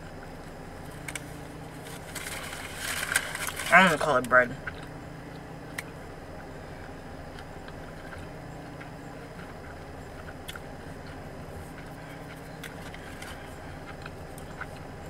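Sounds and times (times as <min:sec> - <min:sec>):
car idling low hum: 0:00.0 - 0:15.0.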